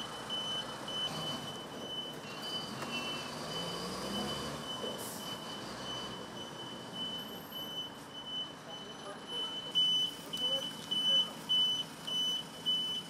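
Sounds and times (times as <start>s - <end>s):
vehicle reversing alarm beeping: 0.0s - 13.0s.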